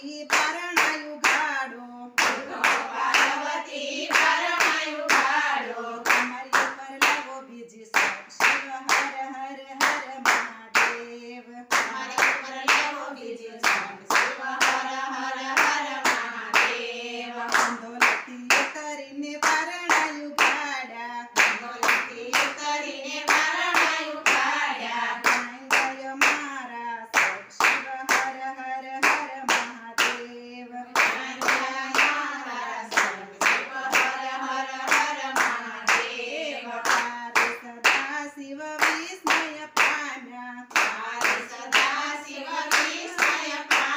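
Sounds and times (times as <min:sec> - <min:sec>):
women singing together: 0:00.0 - 0:43.9
hand claps: 0:00.2 - 0:01.6, 0:02.2 - 0:03.5, 0:04.1 - 0:05.4, 0:06.0 - 0:07.3, 0:07.9 - 0:11.1, 0:11.7 - 0:13.0, 0:13.6 - 0:16.8, 0:17.5 - 0:20.8, 0:21.4 - 0:24.6, 0:25.2 - 0:30.3, 0:31.0 - 0:36.1, 0:36.8 - 0:43.9.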